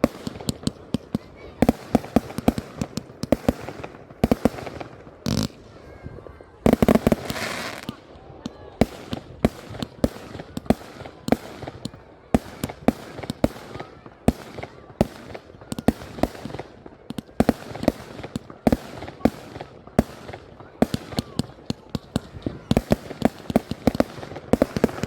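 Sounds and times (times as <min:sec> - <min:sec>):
fireworks bangs echoing: 0:00.0 - 0:25.0.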